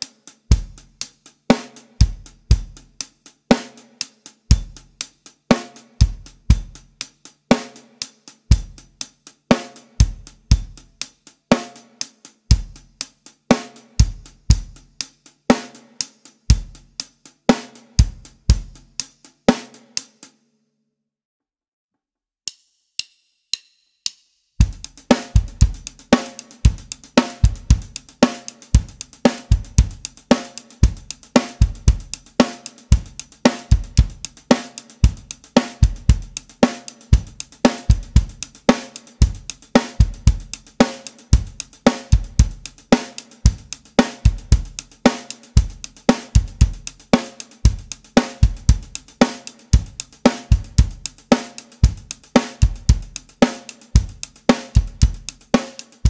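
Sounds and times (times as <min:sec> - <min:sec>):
drum kit rock groove: 0:00.0 - 0:20.4, 0:24.6 - 0:56.0.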